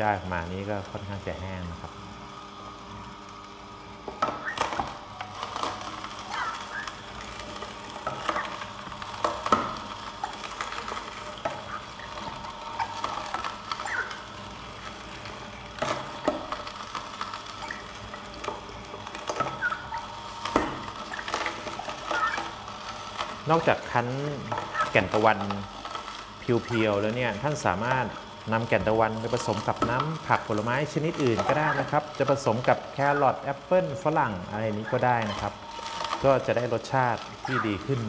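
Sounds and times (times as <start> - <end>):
juicer crunching vegetables: 0.0 - 38.0
juicer motor hum: 0.0 - 38.0.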